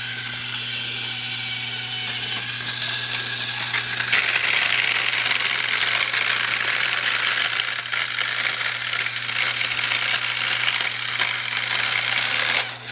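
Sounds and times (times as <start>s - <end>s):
small electric motor whirring: 0.0s - 12.9s
plastic gears and wheels rattling: 1.9s - 12.9s.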